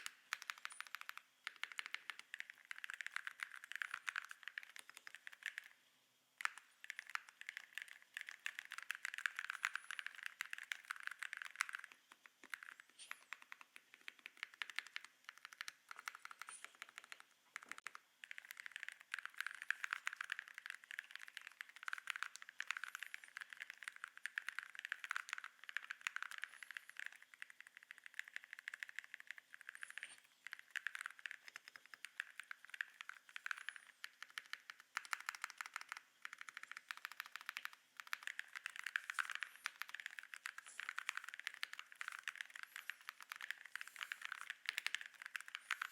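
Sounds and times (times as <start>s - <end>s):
mechanical keyboard typing: 0.0s - 5.8s, 6.4s - 45.9s.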